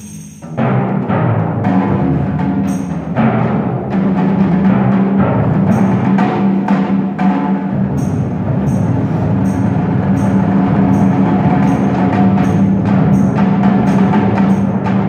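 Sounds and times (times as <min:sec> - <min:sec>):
drum strokes: 0:00.0 - 0:15.0
timpani low notes: 0:00.0 - 0:15.0.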